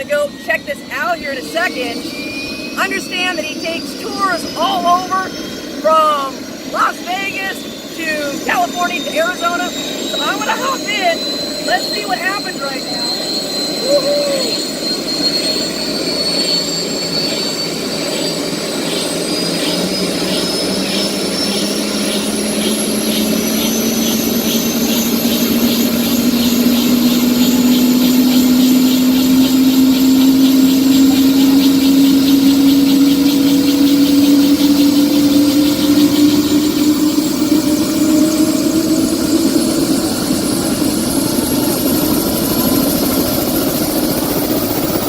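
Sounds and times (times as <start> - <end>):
helicopter rotor beat: 0.0 - 45.0
helicopter turbine whine: 0.0 - 45.0.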